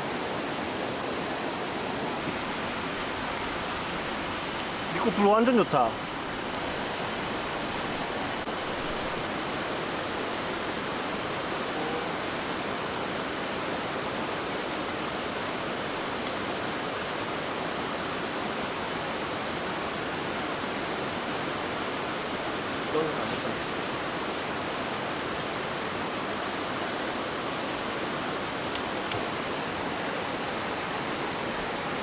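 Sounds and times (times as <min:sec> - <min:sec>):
mountain stream rushing: 0:00.0 - 0:32.0.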